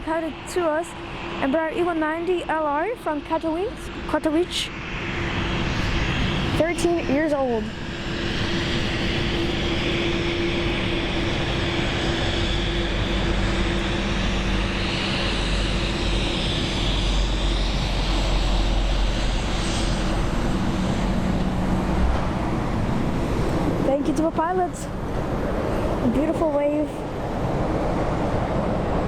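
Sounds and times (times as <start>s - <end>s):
jet engines taxiing: 0.0s - 29.0s.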